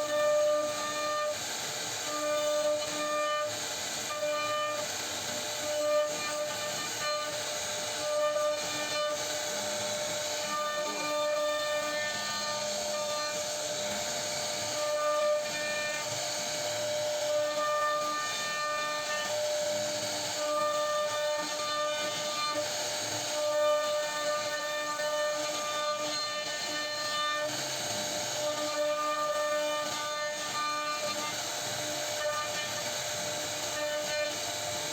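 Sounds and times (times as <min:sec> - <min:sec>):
bit cutting wood hiss: 0:00.0 - 0:34.9
router spindle whining: 0:00.0 - 0:34.9.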